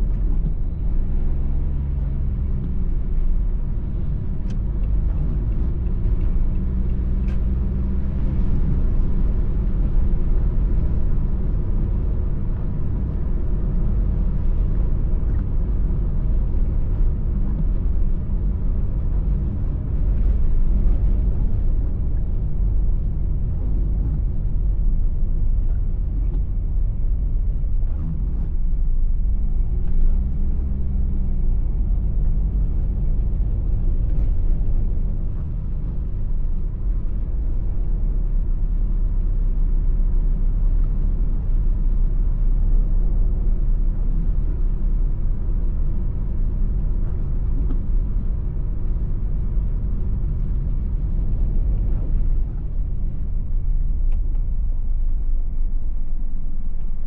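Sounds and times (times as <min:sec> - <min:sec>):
engine and road rumble in car: 0:00.0 - 0:57.0.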